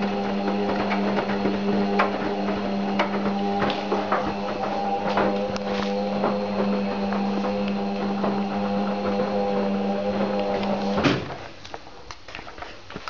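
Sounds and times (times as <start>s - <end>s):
washing machine humming: 0.0s - 11.4s.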